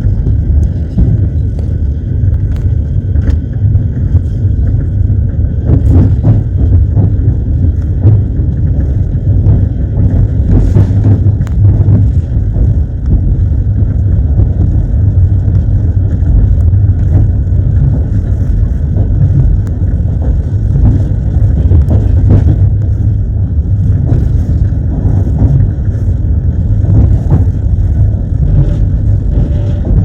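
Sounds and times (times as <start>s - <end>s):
train wheels rumbling on rails: 0.0s - 30.0s
wheels clacking on rails: 0.0s - 30.0s.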